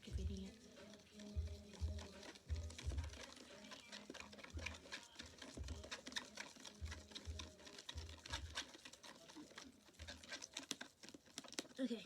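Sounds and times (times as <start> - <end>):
slime being stirred: 0.0 - 12.0.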